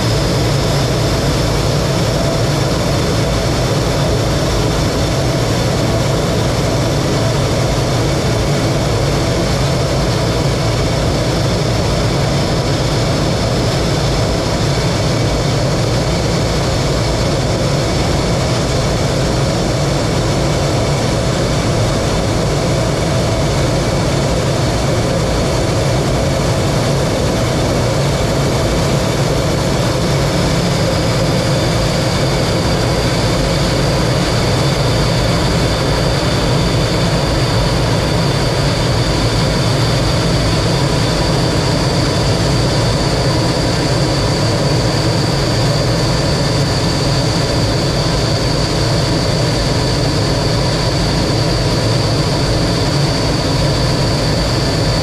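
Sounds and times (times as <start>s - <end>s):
high steady engine whine: 0.0s - 55.0s
jet engine and air rush: 0.0s - 55.0s.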